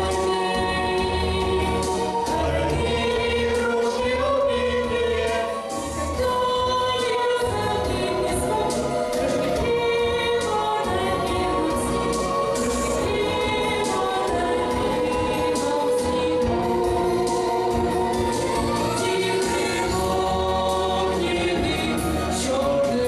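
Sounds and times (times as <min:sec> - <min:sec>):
choir singing held notes: 0:00.0 - 0:22.9
instrumental backing with bass pulse: 0:00.0 - 0:23.0.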